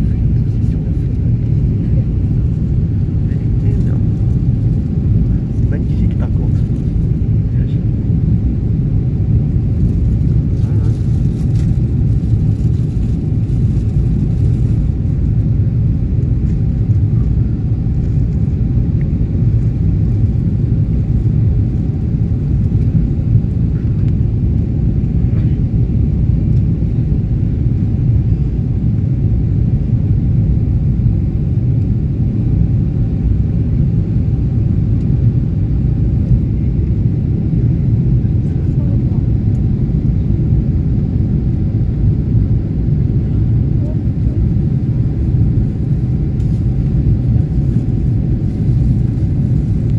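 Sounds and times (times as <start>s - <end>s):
jet engine rumble in cabin: 0.0s - 49.9s.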